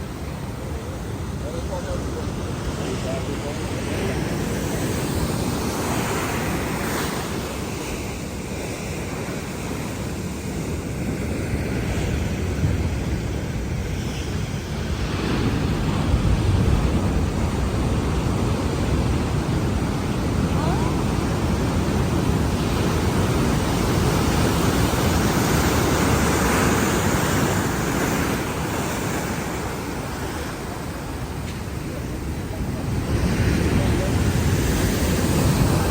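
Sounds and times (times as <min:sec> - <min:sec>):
ocean surf breaking: 0:00.0 - 0:35.9
wind buffeting microphone: 0:00.0 - 0:35.9.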